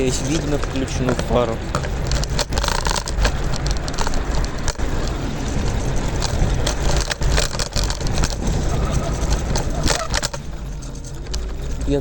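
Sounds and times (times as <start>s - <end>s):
rattling clicks and knocks: 0.0s - 12.0s
scooter wheels rumbling on pavement: 0.0s - 12.0s.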